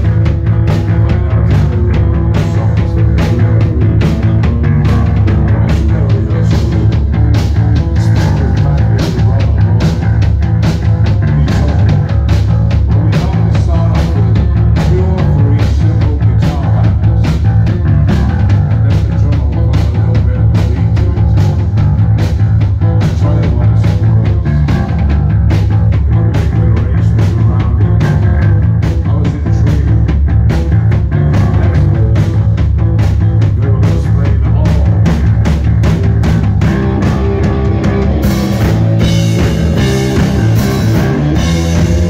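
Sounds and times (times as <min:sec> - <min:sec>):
male lead vocal: 0:00.0 - 0:42.0
rock band playing live: 0:00.0 - 0:42.0.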